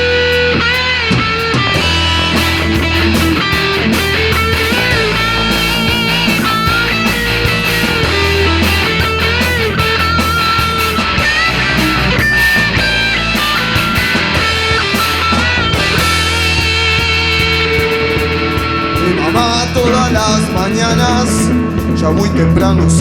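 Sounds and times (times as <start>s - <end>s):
bass guitar: 0.0s - 23.0s
drums: 0.0s - 23.0s
electric guitars: 0.0s - 23.0s.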